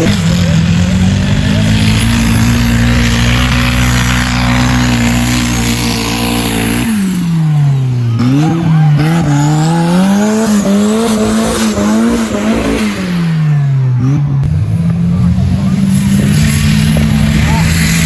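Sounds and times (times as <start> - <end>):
vehicle engine revving: 0.0 - 18.0.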